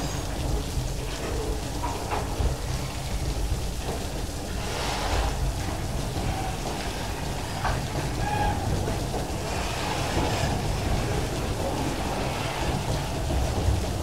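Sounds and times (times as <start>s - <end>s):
freight wagons rumbling past: 0.0s - 14.0s
heavy rain falling: 0.0s - 14.0s.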